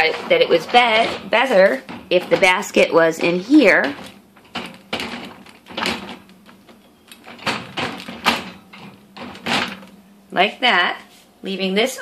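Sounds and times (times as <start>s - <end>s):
plastic basket knocking on metal rack: 0.0s - 9.9s.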